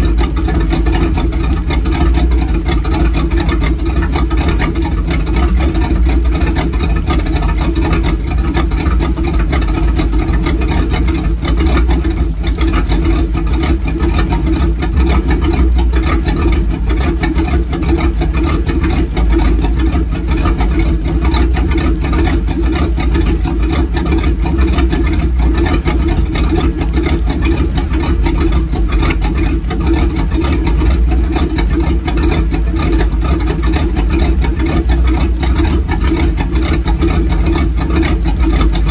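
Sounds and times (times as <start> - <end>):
boat engine idling: 0.0 - 38.9
water spraying: 0.0 - 38.9.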